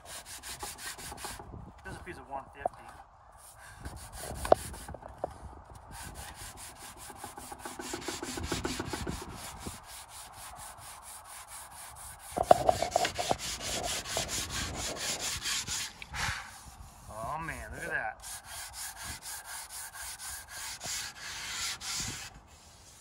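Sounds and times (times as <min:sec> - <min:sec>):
sandpaper rubbing on wood: 0:00.0 - 0:01.4, 0:03.4 - 0:05.0, 0:05.9 - 0:23.0.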